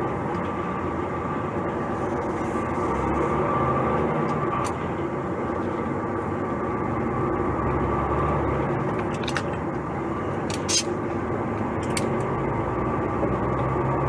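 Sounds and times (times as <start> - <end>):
truck diesel engine droning: 0.0 - 14.0.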